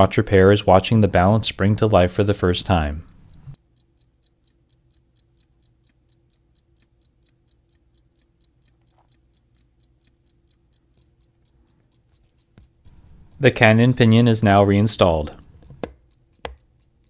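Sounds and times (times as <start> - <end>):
pocket watch ticking: 0.0 - 17.0.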